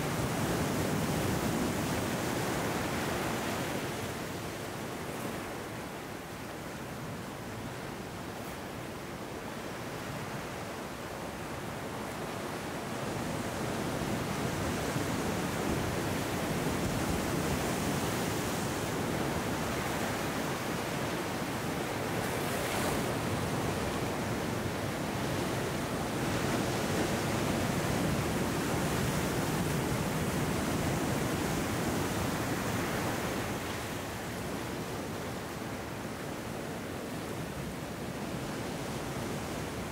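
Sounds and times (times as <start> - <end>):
ocean surf over rocks: 0.0 - 39.9.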